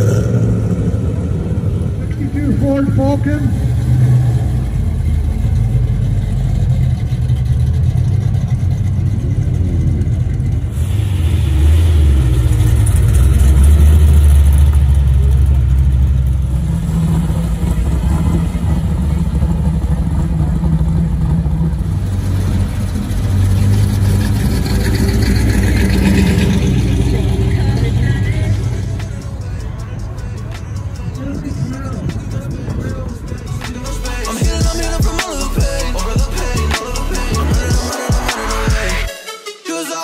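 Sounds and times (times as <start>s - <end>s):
car engine running: 0.0s - 39.1s
road noise: 0.0s - 39.1s.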